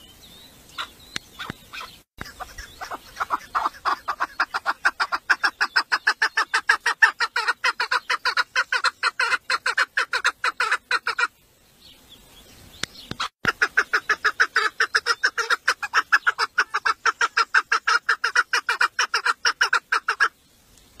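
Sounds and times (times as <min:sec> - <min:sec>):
partridge calling: 0:00.7 - 0:20.4.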